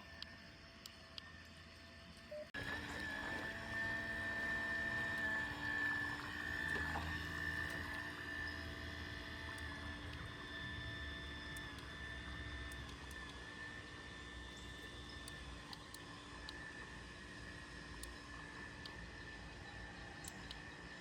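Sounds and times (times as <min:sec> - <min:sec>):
toy boat electric motor whine: 0:00.0 - 0:21.0.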